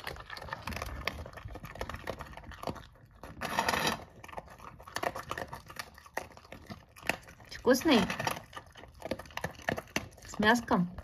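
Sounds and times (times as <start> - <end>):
dog crunching dry kibble: 0.0 - 11.0.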